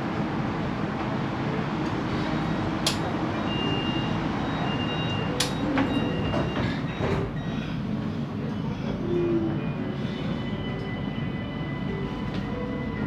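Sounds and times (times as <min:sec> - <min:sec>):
train rolling rumble and hiss: 0:00.0 - 0:13.0.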